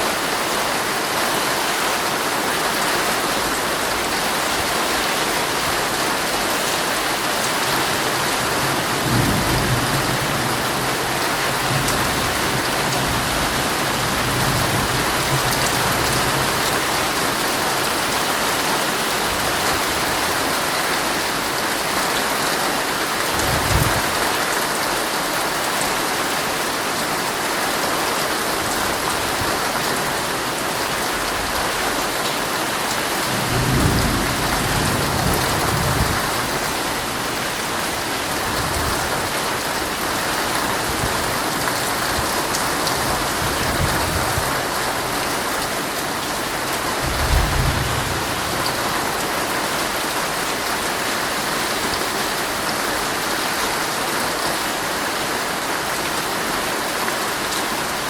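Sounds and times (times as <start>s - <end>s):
heavy rain drumming on tent fabric: 0.0s - 58.0s.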